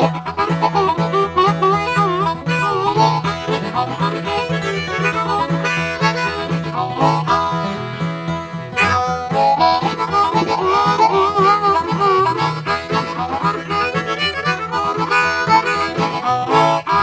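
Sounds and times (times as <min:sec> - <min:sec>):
guitar accompaniment: 0:00.0 - 0:17.0
harmonica with bent notes: 0:00.0 - 0:17.0.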